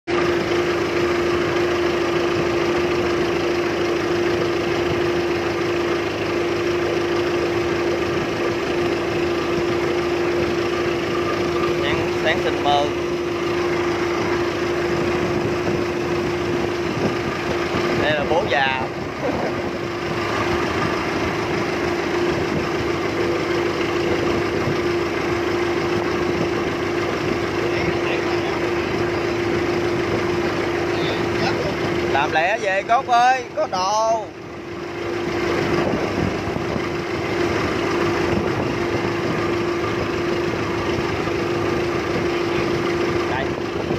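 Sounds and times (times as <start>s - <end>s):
boat engine humming: 0.0s - 43.9s.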